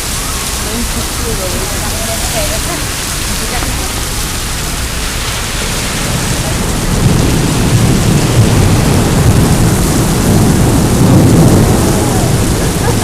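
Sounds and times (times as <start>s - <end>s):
heavy rain pouring: 0.0s - 13.0s
low rumble: 0.0s - 13.0s.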